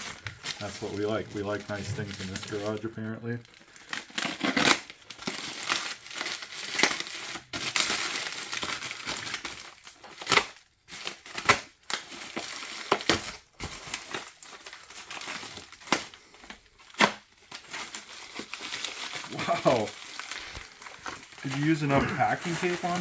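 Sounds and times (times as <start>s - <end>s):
packaging crinkling: 0.0s - 23.0s.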